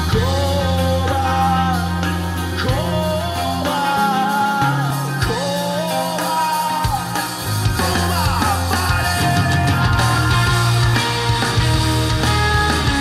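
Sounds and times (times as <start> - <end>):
rock song with singing: 0.0 - 13.0.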